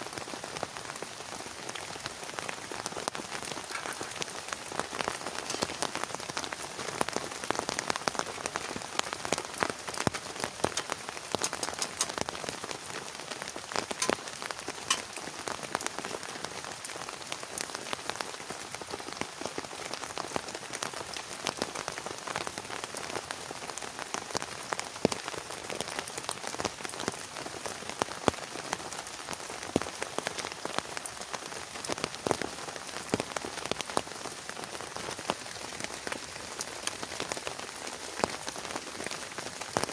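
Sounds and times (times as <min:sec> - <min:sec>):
heavy rain: 0:00.0 - 0:39.9
raindrops hitting a surface: 0:00.0 - 0:39.9.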